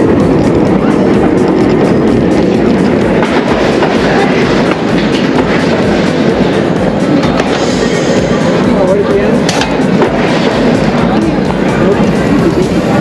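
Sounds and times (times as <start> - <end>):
roller coaster rattling on track: 0.0 - 13.0.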